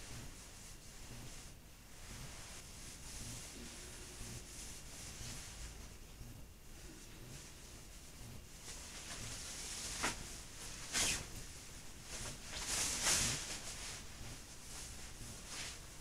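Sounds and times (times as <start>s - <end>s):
jacket rustling and swishing: 0.0s - 6.0s, 8.6s - 16.0s.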